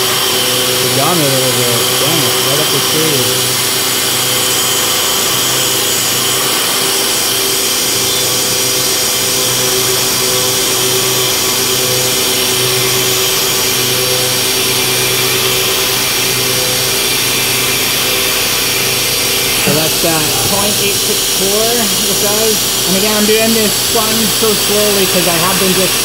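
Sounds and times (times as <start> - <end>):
milling machine cutting metal: 0.0 - 26.0.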